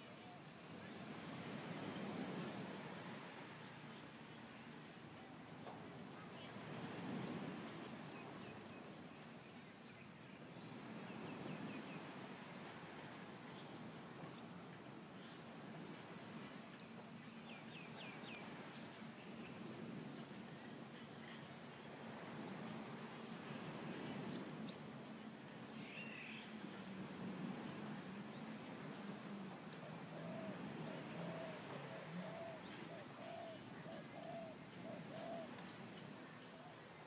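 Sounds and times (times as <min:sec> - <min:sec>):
surf washing in: 0:00.0 - 0:37.0.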